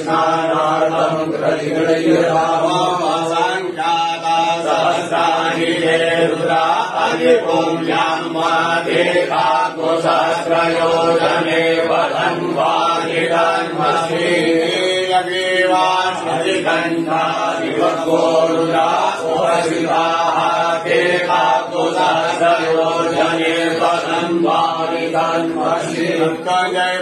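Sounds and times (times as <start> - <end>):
voices chanting: 0.0 - 27.0.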